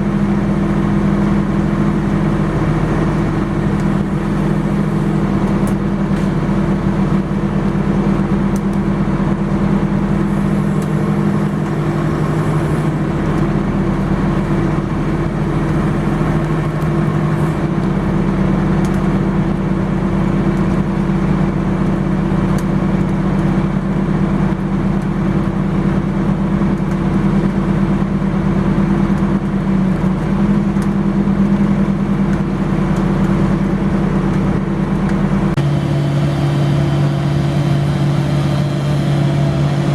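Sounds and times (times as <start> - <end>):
engine droning steadily: 0.0 - 39.9.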